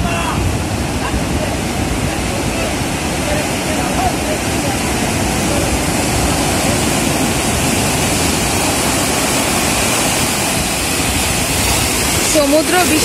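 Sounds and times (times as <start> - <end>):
sea surf breaking on beach: 0.0 - 13.0.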